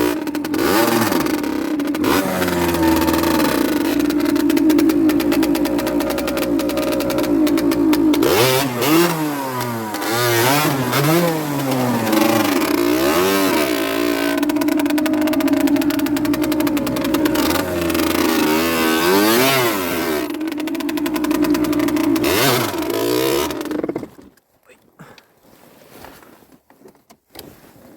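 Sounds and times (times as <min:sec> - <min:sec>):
two-stroke engine revving: 0:00.0 - 0:24.3.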